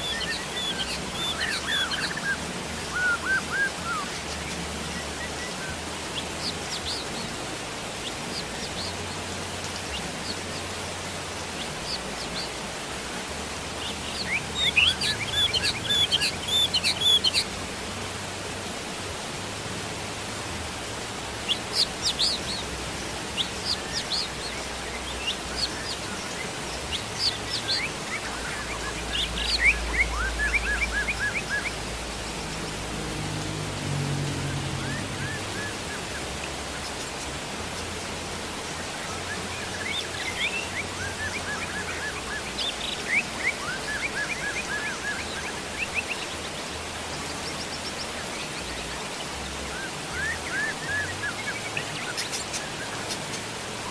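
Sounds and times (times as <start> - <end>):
small birds chirping: 0.0 - 18.2, 20.8 - 53.9
rain hissing: 0.0 - 53.9.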